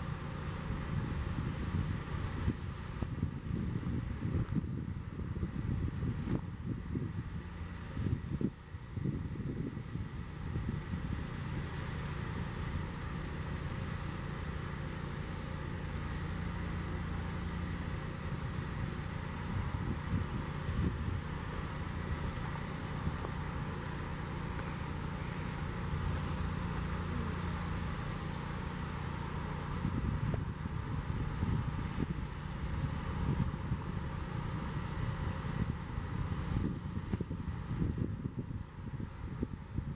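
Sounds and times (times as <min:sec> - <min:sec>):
diesel locomotive rumble: 0:00.0 - 0:39.9
passing road traffic: 0:00.0 - 0:39.9.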